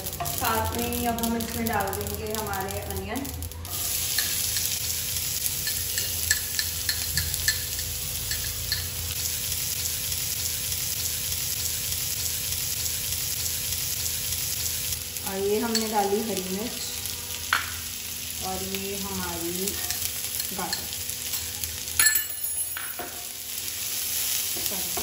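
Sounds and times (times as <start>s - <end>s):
onion sizzling in hot oil: 0.0s - 25.0s.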